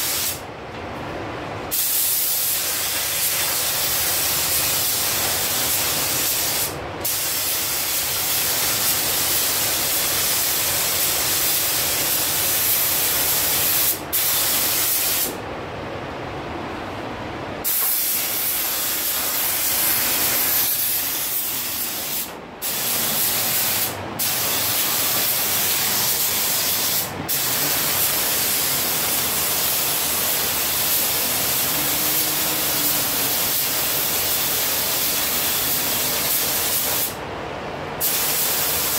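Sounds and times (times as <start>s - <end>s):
spray gun hissing: 0.0s - 0.4s, 1.7s - 15.4s, 17.6s - 37.2s, 38.0s - 38.9s
low steady rush of air: 0.0s - 38.9s.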